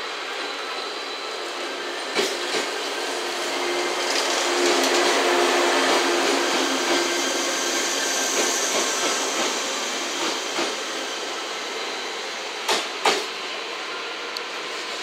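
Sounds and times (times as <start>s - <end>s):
rail car running gear whirring: 0.0s - 15.0s.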